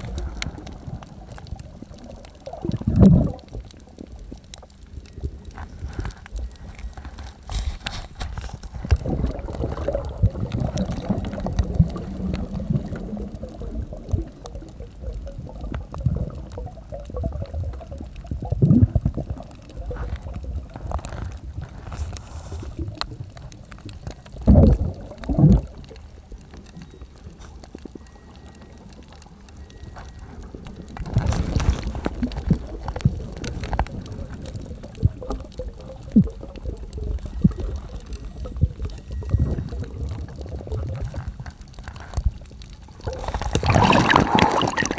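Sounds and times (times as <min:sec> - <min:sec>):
underwater water sloshing: 0:00.0 - 0:44.9.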